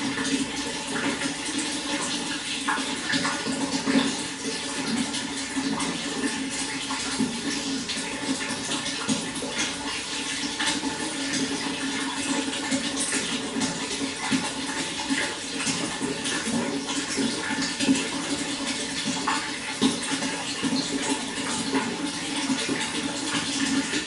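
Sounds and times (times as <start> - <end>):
running water with splashes: 0.0 - 24.0.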